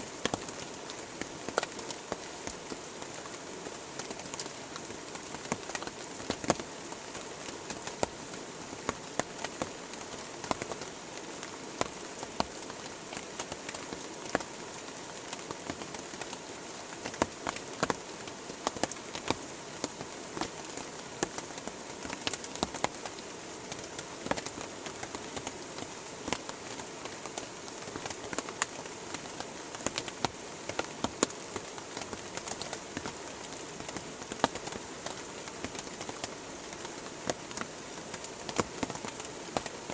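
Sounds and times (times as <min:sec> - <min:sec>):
large raindrops tapping: 0:00.1 - 0:39.9.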